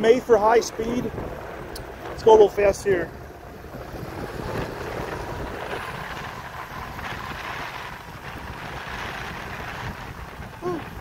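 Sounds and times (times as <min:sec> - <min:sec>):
skateboard wheels rolling: 0:00.0 - 0:11.0
wind rushing over microphone: 0:00.0 - 0:11.0.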